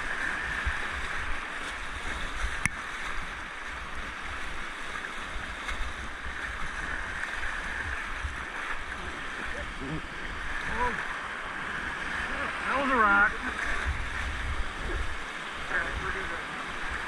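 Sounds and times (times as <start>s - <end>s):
rushing whitewater: 0.0s - 17.0s.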